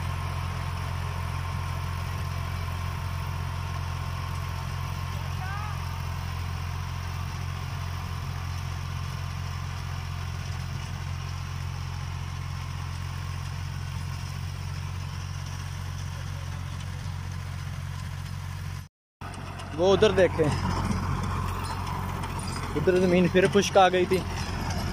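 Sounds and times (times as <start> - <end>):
tiller churning soil: 0.0 - 24.9
tractor engine droning: 0.0 - 24.9.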